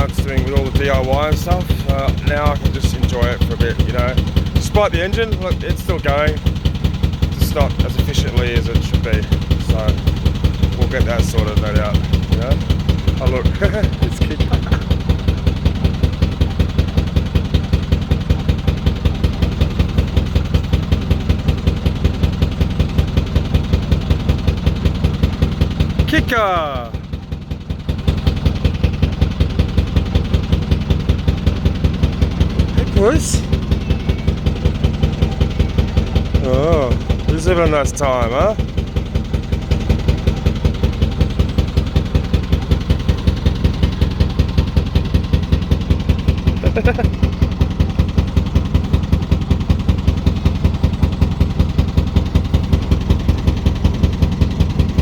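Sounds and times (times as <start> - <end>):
boat diesel engine running: 0.0 - 55.0.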